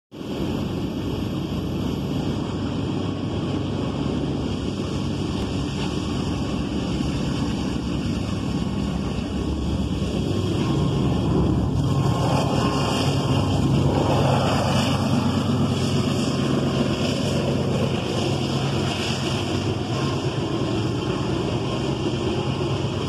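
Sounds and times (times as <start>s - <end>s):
wind noise on microphone: 0.1s - 23.0s
diesel locomotive rumble: 0.3s - 23.0s.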